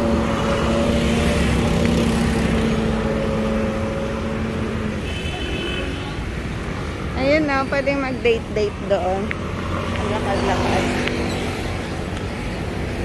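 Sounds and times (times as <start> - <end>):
road rumble: 0.0 - 13.0
vehicle engine hum: 0.0 - 13.0.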